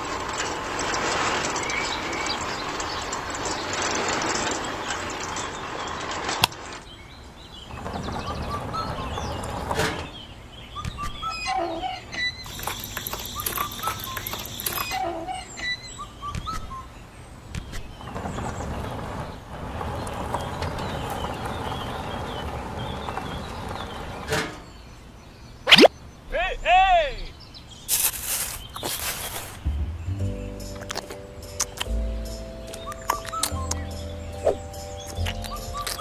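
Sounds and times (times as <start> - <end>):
small birds chirping: 0.0 - 36.0
steady background noise: 0.0 - 36.0.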